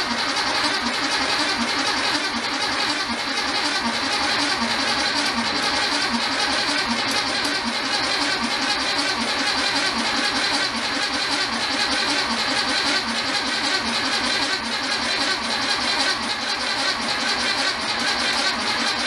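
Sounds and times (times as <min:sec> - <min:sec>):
car engine turning over: 0:00.0 - 0:19.0.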